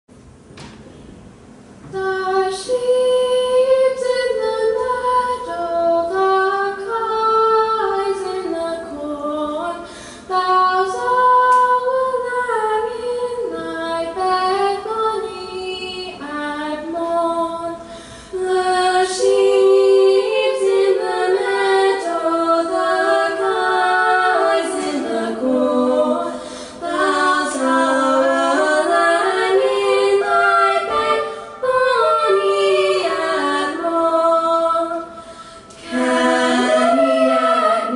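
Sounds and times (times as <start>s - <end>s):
girls singing a cappella: 1.8s - 37.9s.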